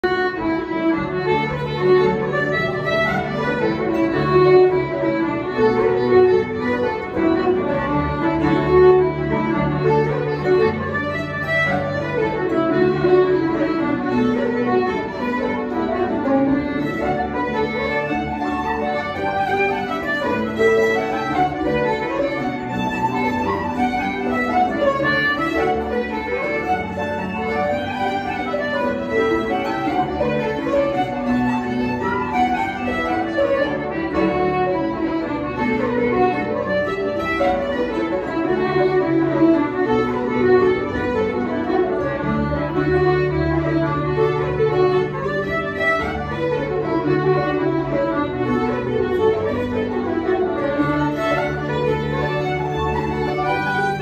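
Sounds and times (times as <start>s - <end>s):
concertina: 0.0s - 54.0s
fiddles playing melody: 0.0s - 54.0s
harp: 0.0s - 54.0s.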